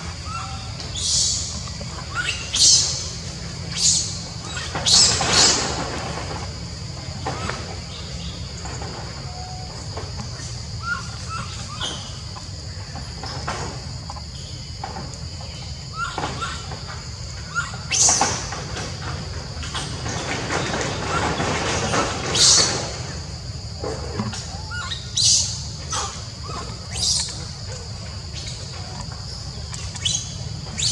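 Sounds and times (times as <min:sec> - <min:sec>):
insects droning: 0:00.0 - 0:30.9.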